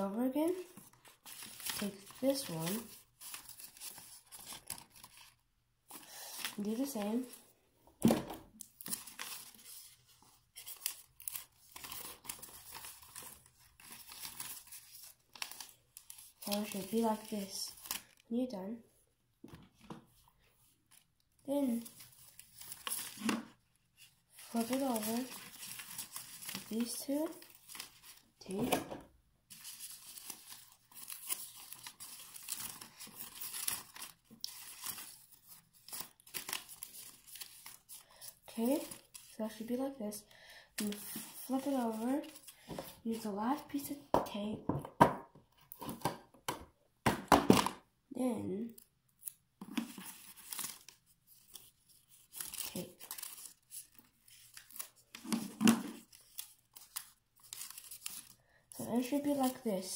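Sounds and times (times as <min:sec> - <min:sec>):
paper rustling and crinkling: 0:00.0 - 0:07.5, 0:08.4 - 0:18.2, 0:19.5 - 0:28.9, 0:29.5 - 0:40.0, 0:40.8 - 0:44.0, 0:49.2 - 0:59.9.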